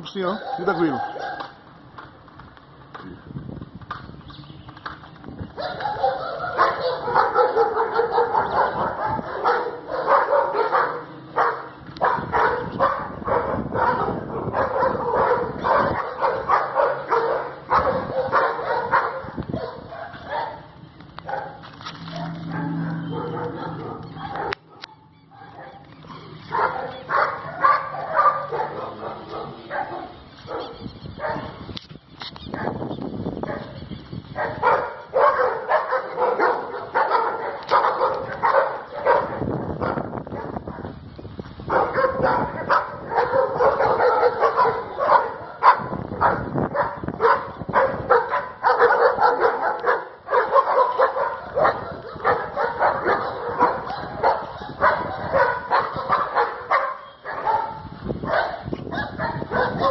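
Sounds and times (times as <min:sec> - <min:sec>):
dogs barking: 0:00.0 - 0:01.6, 0:05.5 - 0:31.6, 0:32.5 - 0:41.0, 0:41.6 - 0:59.9.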